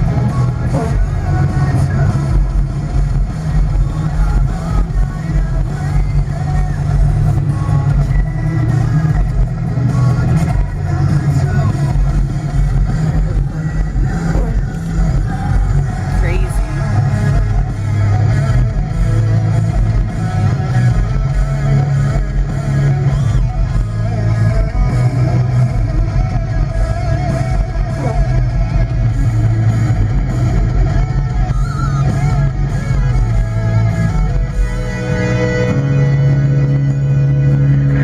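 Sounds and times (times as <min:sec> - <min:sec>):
rock music with guitar and bass: 0:00.0 - 0:38.0.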